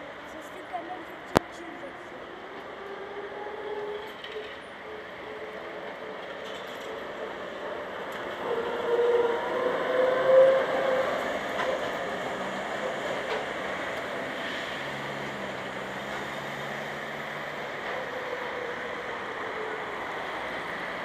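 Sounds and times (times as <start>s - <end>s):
tram passing on rails: 0.0s - 21.0s.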